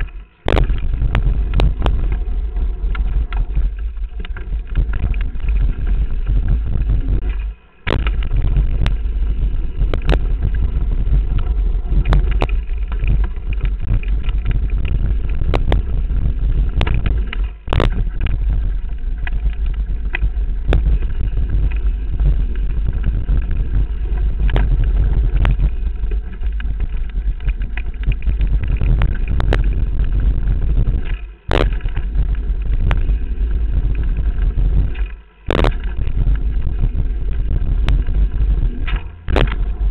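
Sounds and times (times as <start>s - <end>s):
mountain bike rattling: 0.0s - 39.9s
wind buffeting microphone: 0.0s - 39.9s.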